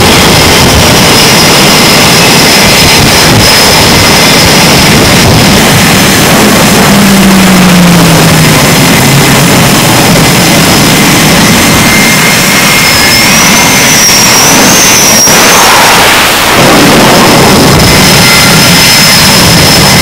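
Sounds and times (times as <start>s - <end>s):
high jet whine: 0.0s - 20.0s
jet engine roar: 0.0s - 20.0s.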